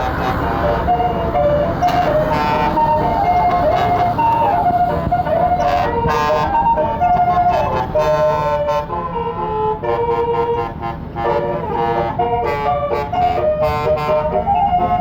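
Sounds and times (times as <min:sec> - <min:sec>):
low vehicle rumble: 0:00.0 - 0:15.0
musical bus horn playing a tune: 0:00.0 - 0:15.0.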